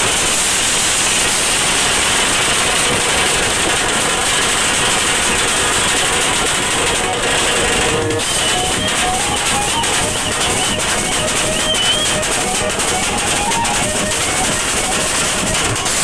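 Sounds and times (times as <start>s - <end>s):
distorted drums and cymbals: 0.0s - 16.0s.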